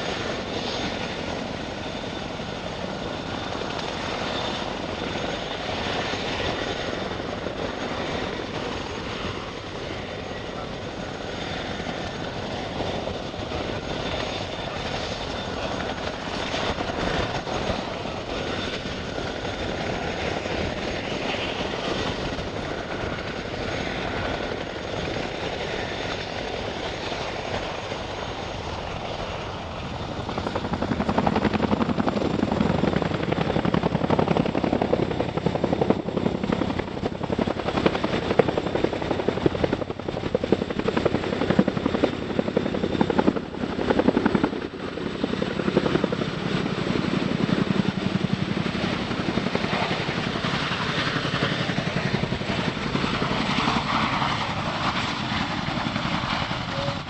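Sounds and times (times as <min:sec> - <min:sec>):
helicopter rotors: 0:00.0 - 0:57.0
high turbine whine: 0:00.0 - 0:57.0.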